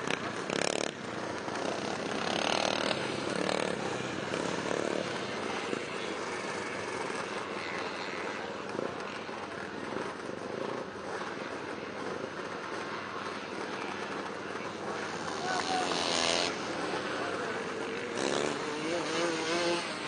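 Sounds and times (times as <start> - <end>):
motorcycle engines buzzing: 0.0 - 20.0.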